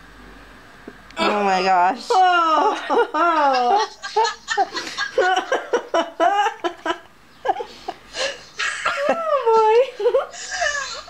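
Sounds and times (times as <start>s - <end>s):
people laughing: 2.1s - 11.0s.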